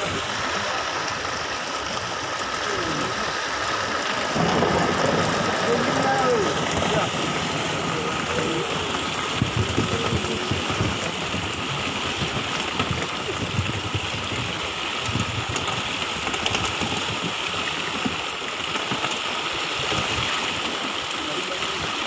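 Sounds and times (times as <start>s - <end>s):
fish thrashing and splashing: 0.0s - 22.0s.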